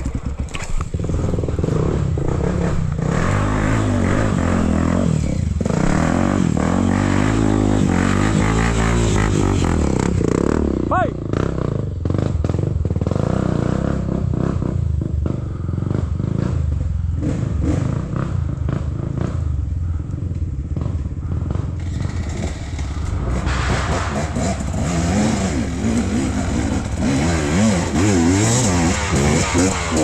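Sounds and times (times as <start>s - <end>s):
motorcycle engine revving: 0.0s - 30.0s
trail motorcycle engines running: 0.0s - 30.0s.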